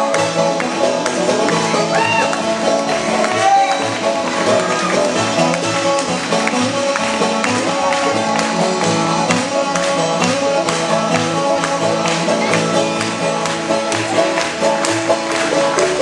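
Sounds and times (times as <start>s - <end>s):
bluegrass string band playing: 0.0s - 16.0s.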